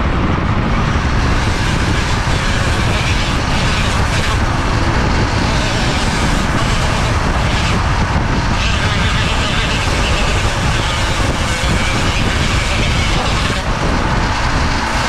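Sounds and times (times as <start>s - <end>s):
loud steady rushing noise: 0.0s - 15.0s
rotary tool sanding cork: 0.7s - 15.0s.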